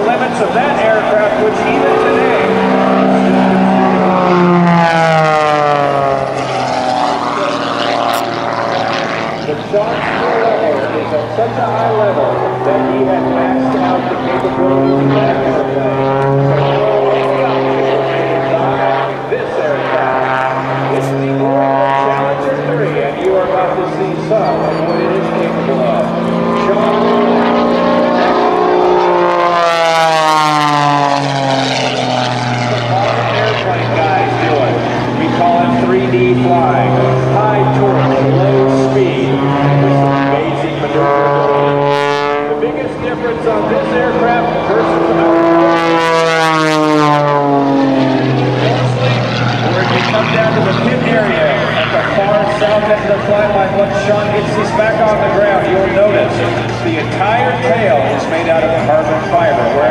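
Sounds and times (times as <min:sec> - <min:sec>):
propeller plane engine passing: 0:00.0 - 0:59.9.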